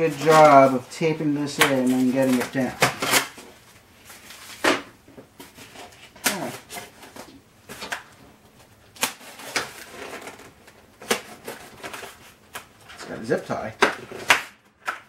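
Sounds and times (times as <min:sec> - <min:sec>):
cardboard and foam packaging handled: 0:00.0 - 0:15.0.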